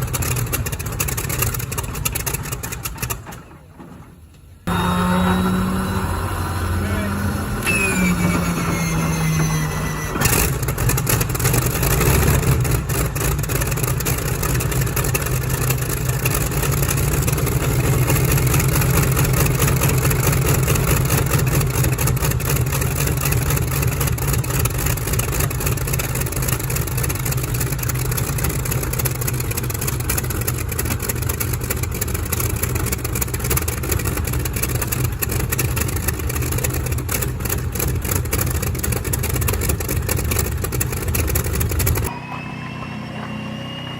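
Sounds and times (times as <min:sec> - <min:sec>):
piston aircraft engine running: 0:00.0 - 0:03.6, 0:04.7 - 0:43.9.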